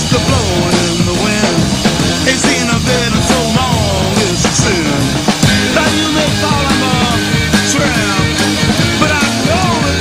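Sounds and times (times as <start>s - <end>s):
electric guitar bends: 0.0s - 10.0s
steady drum beat: 0.0s - 10.0s.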